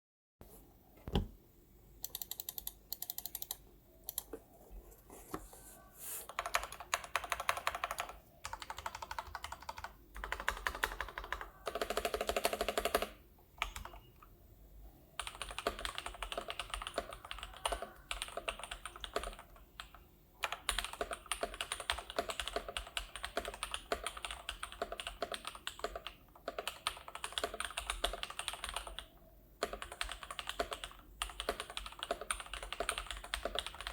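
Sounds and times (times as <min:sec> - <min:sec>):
mechanical keyboard typing: 0:02.0 - 0:04.4, 0:06.3 - 0:14.1, 0:15.2 - 0:33.9.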